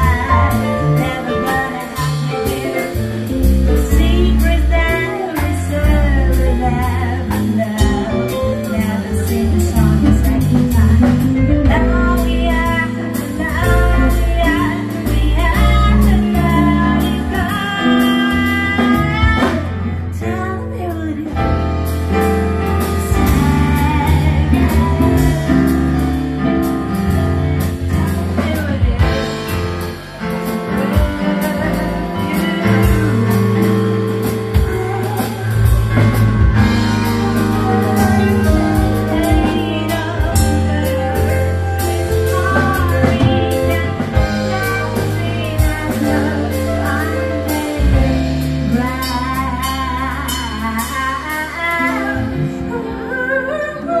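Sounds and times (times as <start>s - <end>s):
rock band playing: 0.0s - 54.0s
woman singing into microphone: 0.0s - 54.0s.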